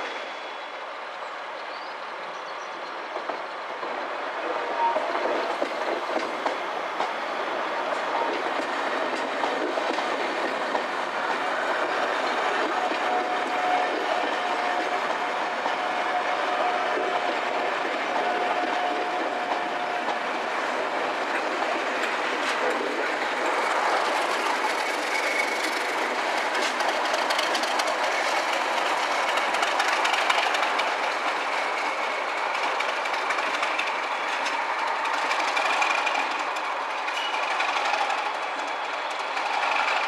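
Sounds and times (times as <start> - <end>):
diesel locomotive passing: 0.0 - 40.0
train wheels clattering over rails: 3.0 - 40.0.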